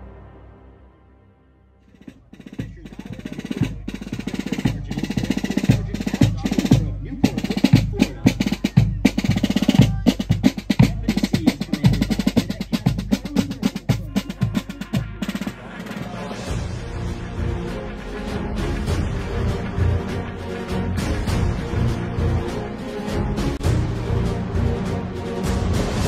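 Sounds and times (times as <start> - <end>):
soundtrack music with snare drumming: 1.9 - 26.0.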